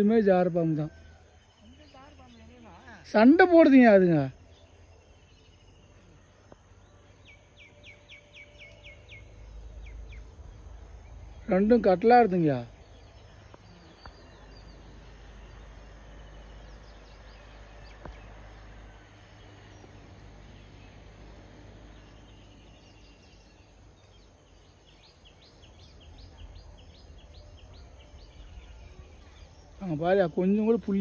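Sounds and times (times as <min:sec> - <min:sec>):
low rumble on microphone: 0:04.3 - 0:31.0.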